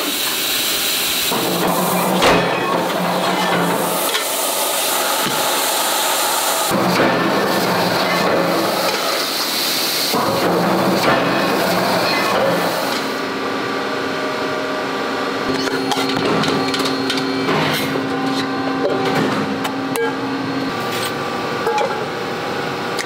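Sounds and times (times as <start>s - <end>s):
machine hum: 1.3s - 23.0s.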